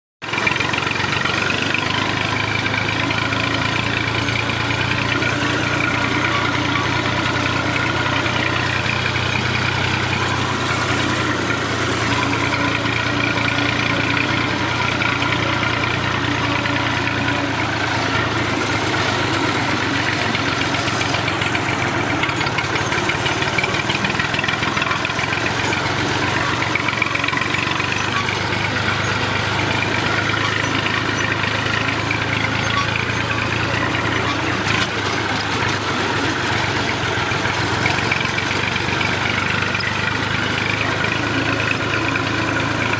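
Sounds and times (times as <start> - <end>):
tractor diesel engine running: 0.2 - 42.9.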